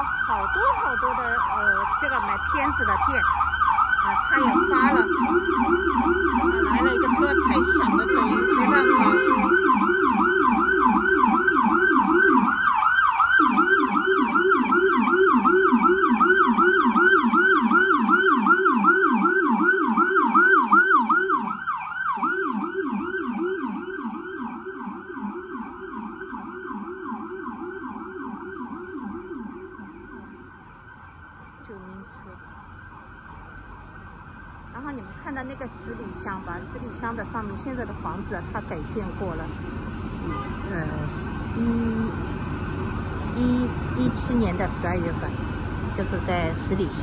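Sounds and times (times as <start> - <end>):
ambulance siren yelp: 0.0 - 47.0
lower siren tone: 0.0 - 47.0.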